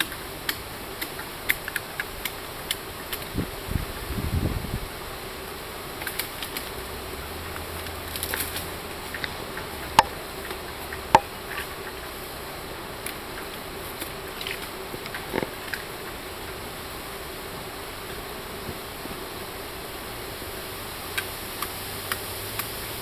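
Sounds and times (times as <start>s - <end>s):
pole rustling in undergrowth: 0.0s - 21.8s
steady background hiss: 0.0s - 23.0s.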